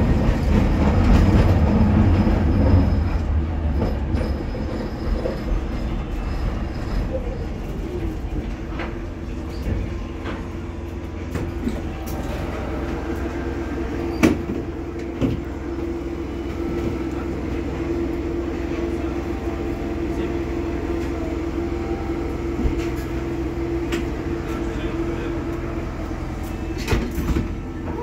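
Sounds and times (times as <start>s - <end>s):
tram rumble: 0.0s - 28.0s.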